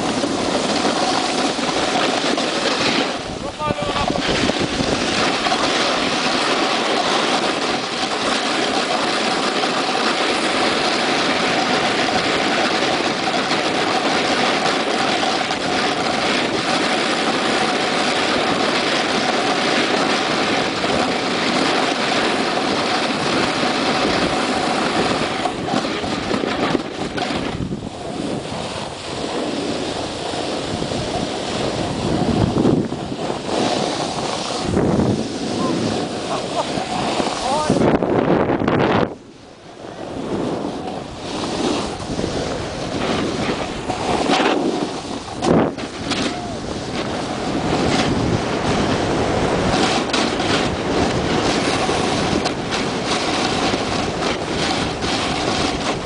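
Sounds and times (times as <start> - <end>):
snowboard sliding over snow: 0.0 - 56.0
wind on microphone: 0.0 - 56.0.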